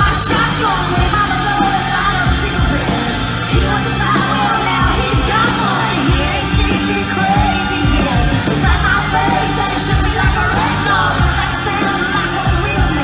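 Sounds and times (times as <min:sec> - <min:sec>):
crowd yelling: 0:00.0 - 0:13.0
live country band playing: 0:00.0 - 0:13.0
woman singing: 0:00.0 - 0:13.0.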